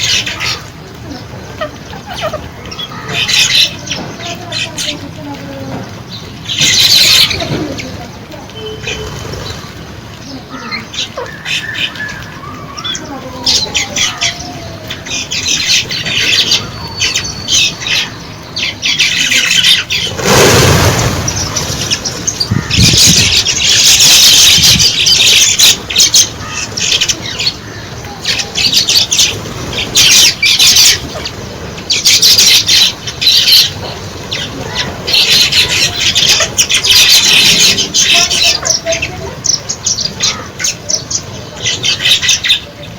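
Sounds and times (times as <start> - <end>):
wingbeats fluttering: 0.0 - 17.6, 19.0 - 40.6
flock of birds chirping: 0.0 - 42.9.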